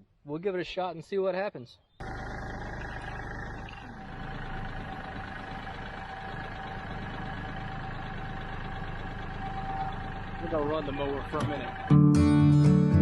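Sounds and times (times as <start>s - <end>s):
tractor diesel engine idling: 2.0s - 13.0s.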